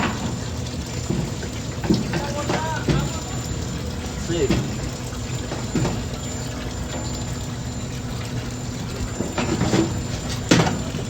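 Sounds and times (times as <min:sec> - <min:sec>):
washing machine running: 0:00.0 - 0:11.0.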